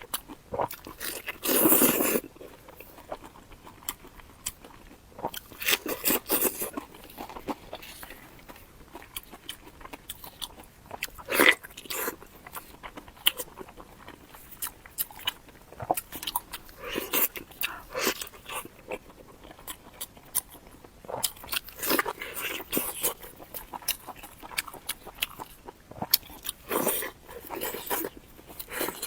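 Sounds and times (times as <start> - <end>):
crunchy chewing: 0.0 - 29.0.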